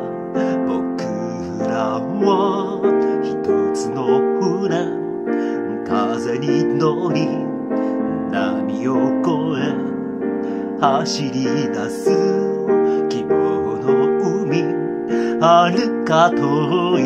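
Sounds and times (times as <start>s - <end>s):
man singing: 0.0s - 17.0s
piano chords: 0.0s - 17.0s.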